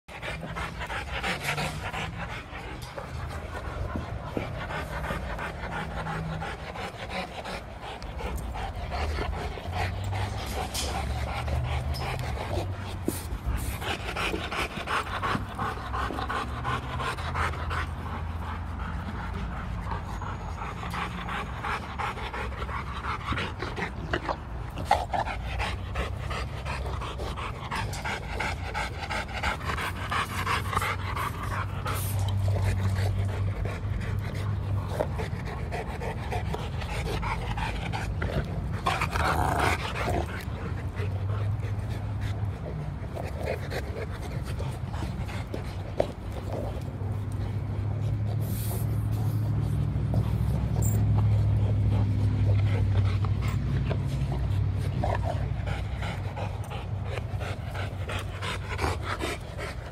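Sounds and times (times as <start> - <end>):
dog panting hard: 0.1 - 59.9.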